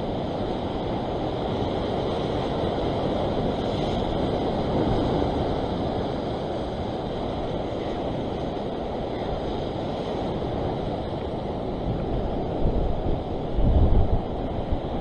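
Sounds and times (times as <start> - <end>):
ocean waves washing over rocks: 0.0 - 15.0
wind on microphone: 0.0 - 15.0.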